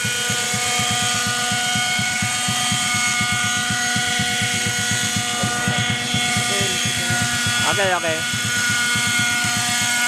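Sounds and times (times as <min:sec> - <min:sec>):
model helicopter engine whine: 0:00.0 - 0:10.0
rotor chopping: 0:01.2 - 0:10.0.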